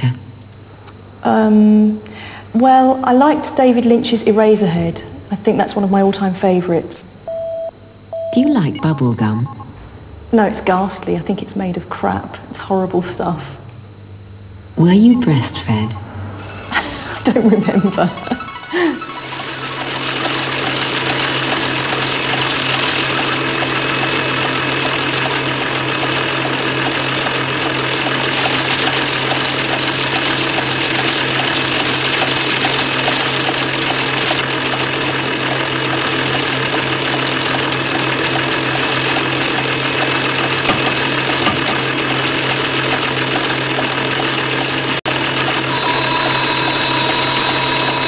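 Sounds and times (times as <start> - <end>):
industrial machine drone: 0.0 - 48.0.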